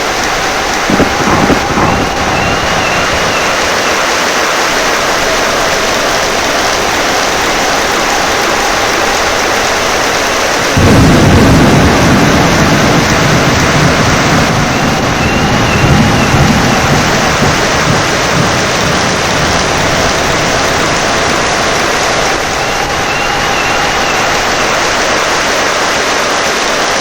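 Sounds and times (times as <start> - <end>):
thunder rumbling: 0.0 - 26.1
heavy rain hissing: 0.0 - 27.0.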